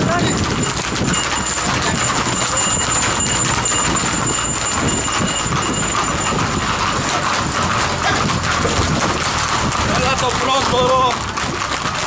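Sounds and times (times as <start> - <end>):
horse hooves on pavement: 0.0 - 12.0.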